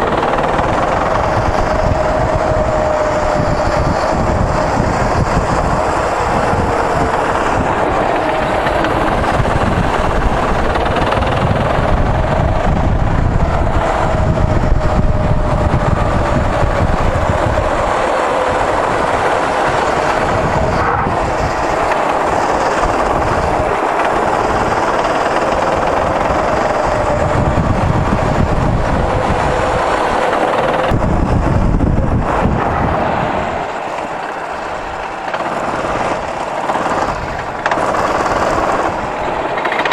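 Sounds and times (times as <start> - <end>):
go-kart engine running hard: 0.0 - 39.9
wind rumble: 0.0 - 39.9.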